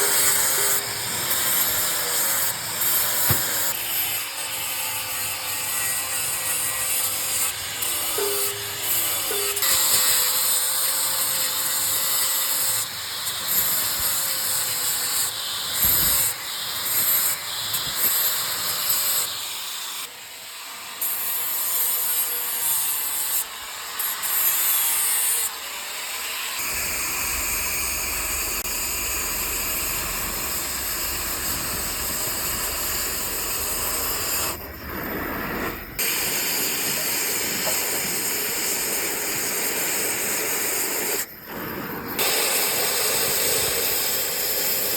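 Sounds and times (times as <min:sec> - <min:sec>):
welding torch hissing: 0:00.0 - 0:20.1, 0:26.6 - 0:44.9.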